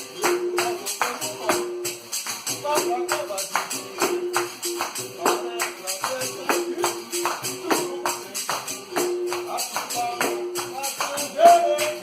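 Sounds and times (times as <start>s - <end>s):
melody of short held notes: 0.0s - 11.9s
pandeiro jingles: 0.0s - 12.0s.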